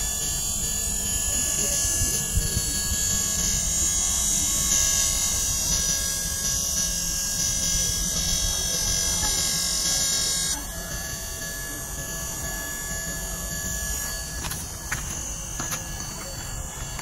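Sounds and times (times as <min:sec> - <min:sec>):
small electric motor whirring: 0:00.0 - 0:17.0.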